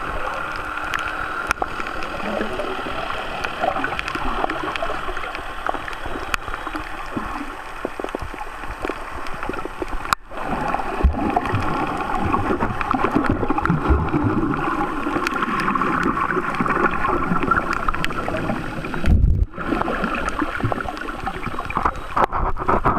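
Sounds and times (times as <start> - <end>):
crackles: 0.0 - 22.9
muffled underwater rush: 0.0 - 22.9.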